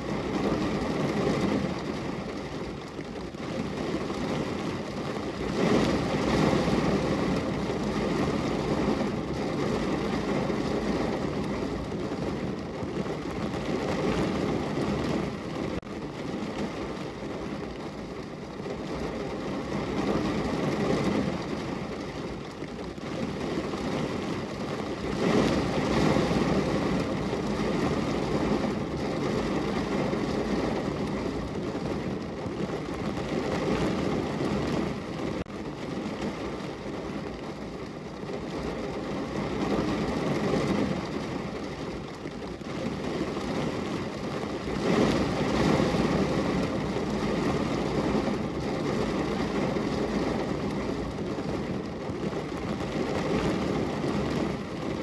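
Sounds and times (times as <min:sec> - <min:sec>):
rain on a window pane: 0:00.0 - 0:55.0.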